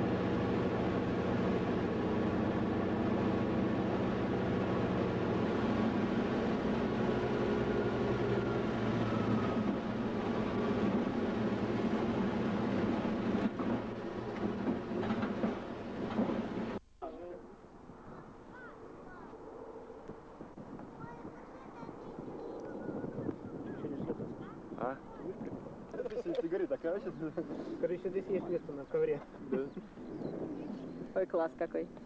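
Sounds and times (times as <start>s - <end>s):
aircraft engine droning: 0.0s - 32.0s.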